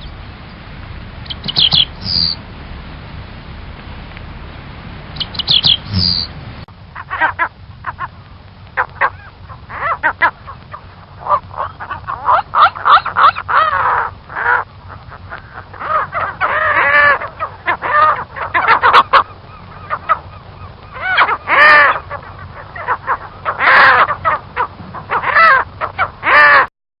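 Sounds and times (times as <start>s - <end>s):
bird calling: 0.0s - 0.6s, 1.2s - 2.4s, 5.1s - 26.7s.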